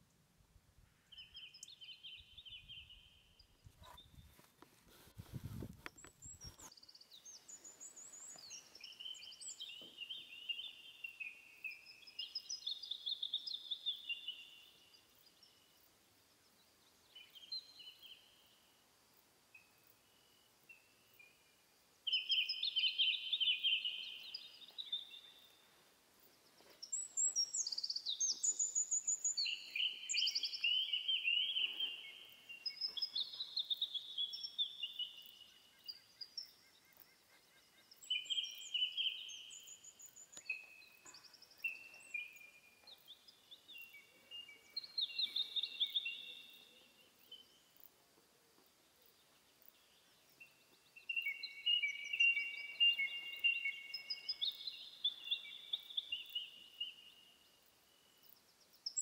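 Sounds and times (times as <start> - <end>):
songbird singing: 0.0 - 4.7, 5.3 - 59.0.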